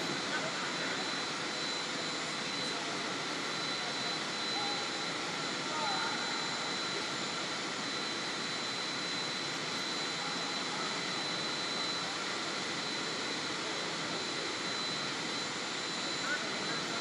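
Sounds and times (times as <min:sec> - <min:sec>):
high whine: 0:00.0 - 0:17.0.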